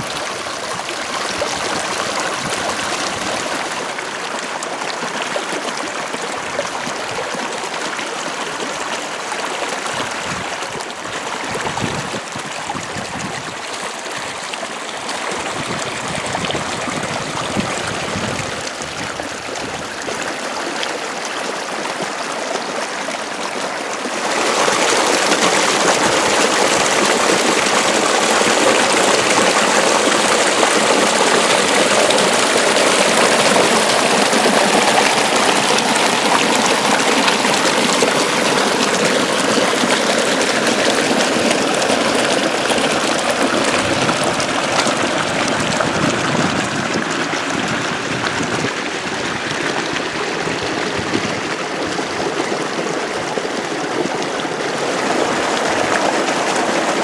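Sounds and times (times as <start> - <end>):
water rushing along a ditch: 0.0 - 57.0.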